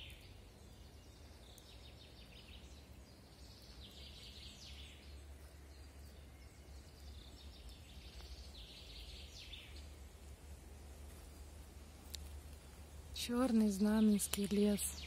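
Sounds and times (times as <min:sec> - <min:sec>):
faint low rumble: 0:00.0 - 0:15.0
songbirds singing: 0:00.0 - 0:15.0.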